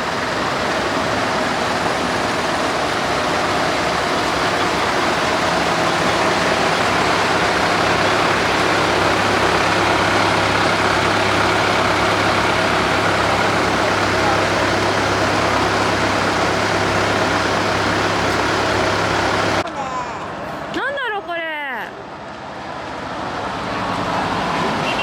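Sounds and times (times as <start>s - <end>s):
low engine hum: 0.0s - 20.8s
fire truck engine drone: 0.0s - 20.9s, 22.0s - 25.0s.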